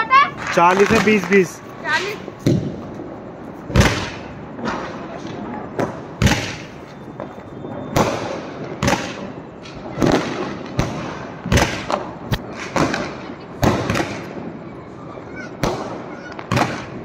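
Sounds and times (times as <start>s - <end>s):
firework shots thumping: 0.4s - 14.4s, 15.6s - 17.0s.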